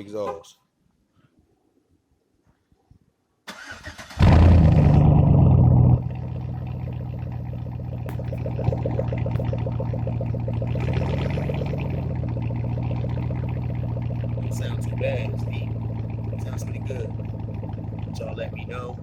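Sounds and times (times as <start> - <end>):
car engine idling: 3.6 - 19.0.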